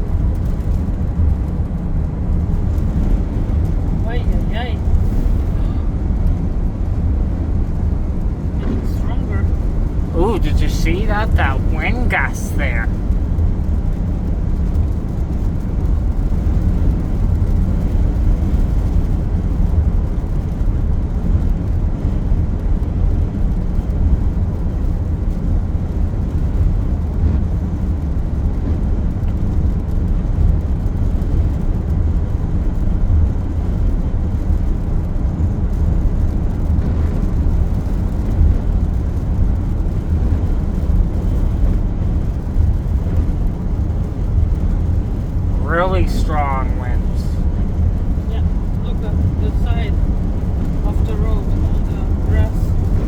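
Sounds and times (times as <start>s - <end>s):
car road and engine rumble: 0.0s - 53.0s
gusty wind buffeting car: 0.0s - 53.0s.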